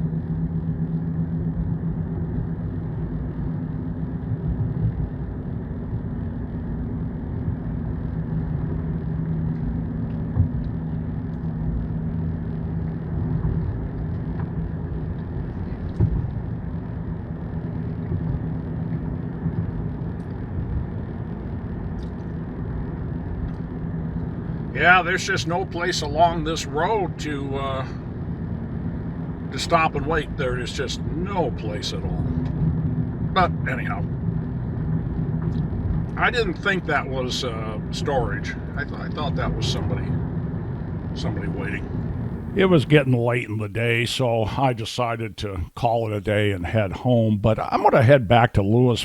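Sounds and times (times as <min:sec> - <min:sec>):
car engine and tyre rumble: 0:00.0 - 0:47.5
low hum: 0:00.0 - 0:49.0.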